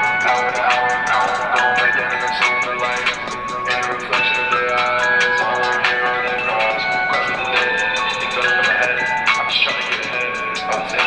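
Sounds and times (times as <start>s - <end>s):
rap track playing: 0.0s - 11.0s.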